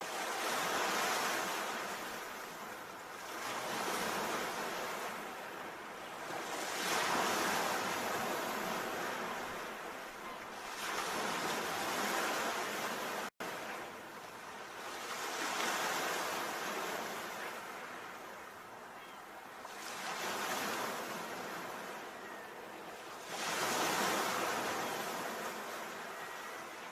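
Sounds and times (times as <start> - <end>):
sea waves washing ashore: 0.0 - 26.9.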